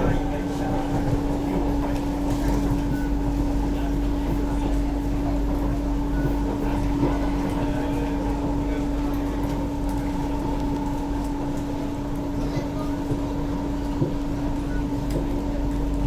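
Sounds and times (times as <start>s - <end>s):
electric train interior hum: 0.0s - 16.0s
train rumble and drone: 0.0s - 16.0s.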